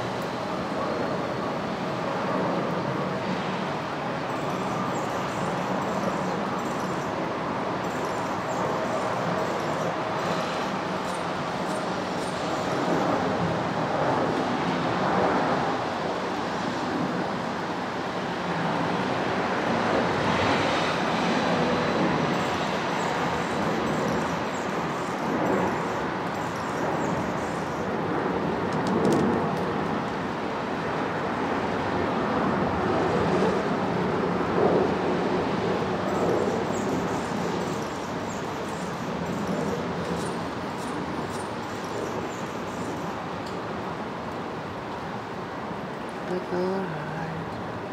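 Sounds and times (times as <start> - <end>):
rushing outdoor background noise: 0.0 - 47.9.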